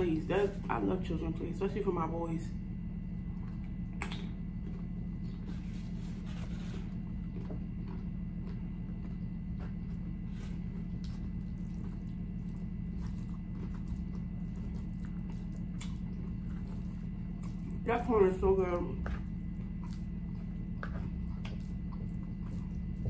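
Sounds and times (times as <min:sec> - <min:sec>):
steady low hum: 0:00.0 - 0:23.0
close chewing with mouth clicks: 0:03.3 - 0:18.4, 0:19.0 - 0:23.0.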